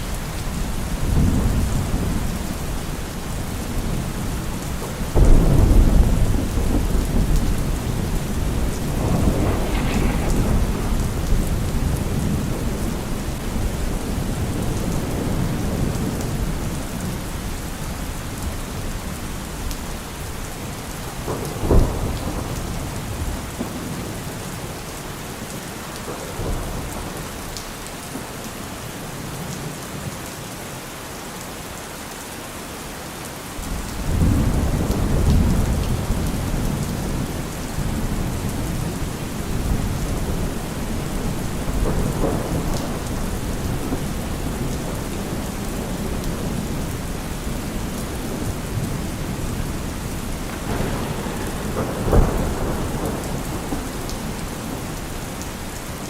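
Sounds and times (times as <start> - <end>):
low thunder rumble: 0.0 - 27.6, 33.6 - 56.0
steady rain falling: 0.0 - 56.0
thunderclap: 0.1 - 28.2, 33.6 - 56.0.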